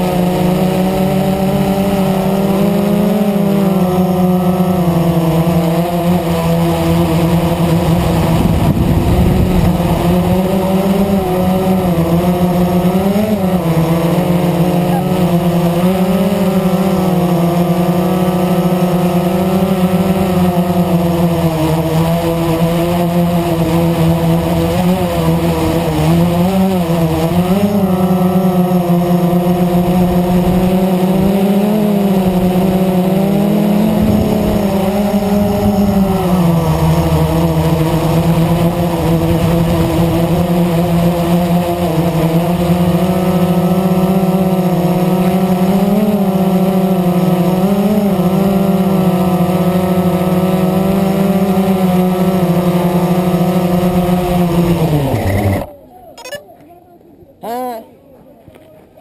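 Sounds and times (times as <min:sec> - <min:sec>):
drone propellers buzzing: 0:00.0 - 0:56.4.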